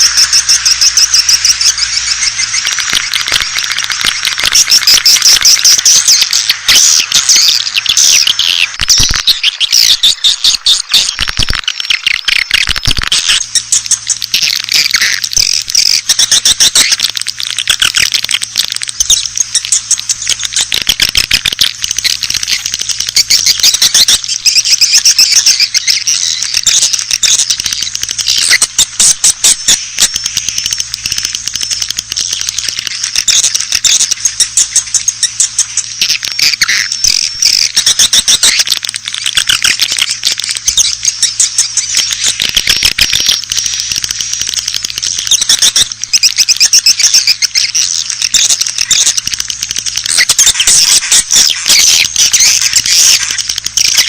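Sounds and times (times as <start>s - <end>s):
swiftlets twittering: 0.0s - 54.0s.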